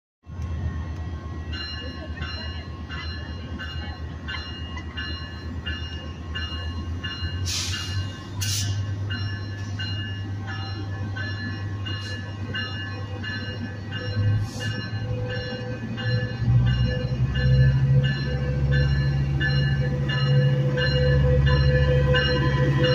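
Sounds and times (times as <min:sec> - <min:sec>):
locomotive engine rumbling: 0:00.3 - 0:22.9
locomotive bell ringing: 0:01.3 - 0:22.9.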